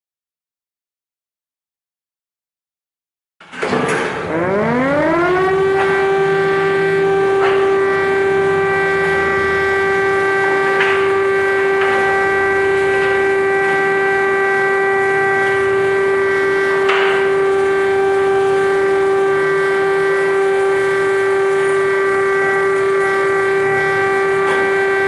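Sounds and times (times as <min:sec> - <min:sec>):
air-raid siren wailing: 0:04.2 - 0:25.0.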